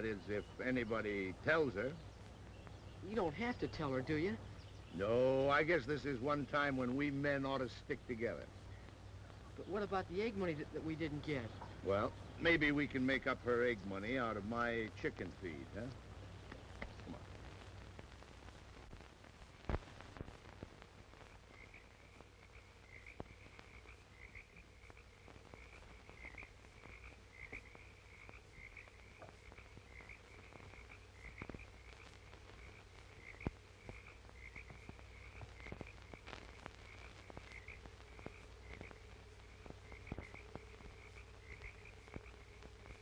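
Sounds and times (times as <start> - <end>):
frogs chirping: 0.0 - 18.3, 18.9 - 43.0
film soundtrack crackle and hum: 0.0 - 43.0.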